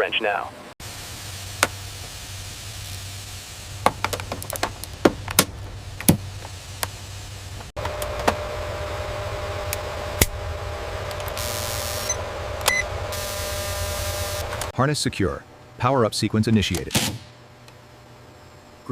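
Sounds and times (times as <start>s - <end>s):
machine hum with whine: 0.6s - 14.8s, 17.3s - 18.9s.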